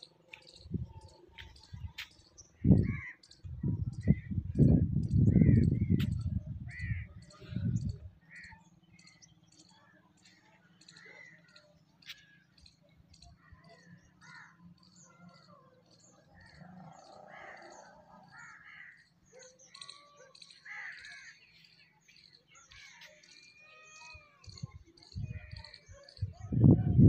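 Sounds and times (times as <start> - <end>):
faint chorus of birds calling: 0.0 - 27.0.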